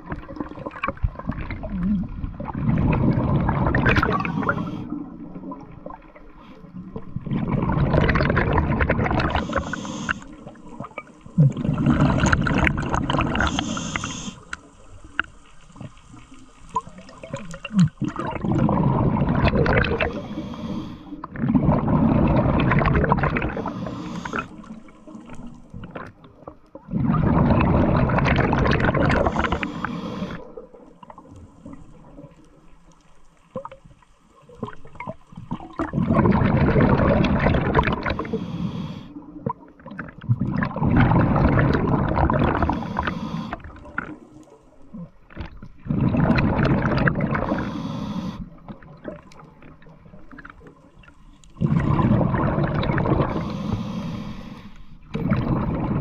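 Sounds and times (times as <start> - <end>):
diver exhaling bubbles underwater: 0.0 - 16.0, 16.7 - 32.4, 34.6 - 56.0.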